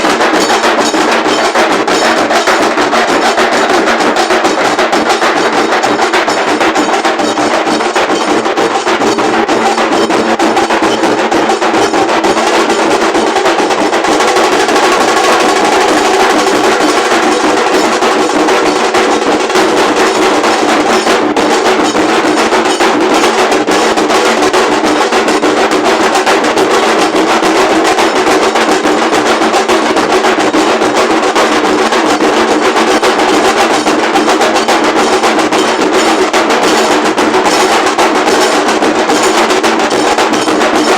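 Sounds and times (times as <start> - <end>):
dhol drums beating fast: 0.0 - 40.9.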